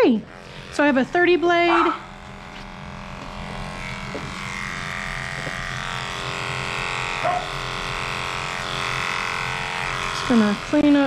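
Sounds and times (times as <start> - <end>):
hair clipper motor buzzing: 0.0 - 11.0.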